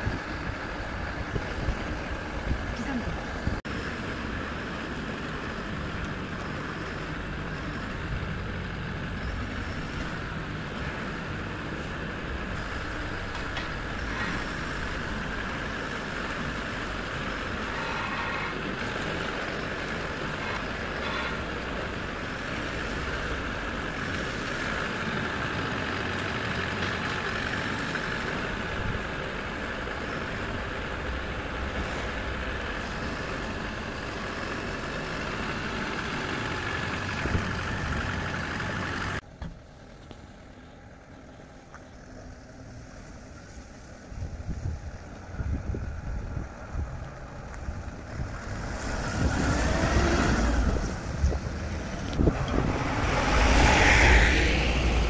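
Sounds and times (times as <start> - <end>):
truck engine rumbling: 0.0 - 55.0.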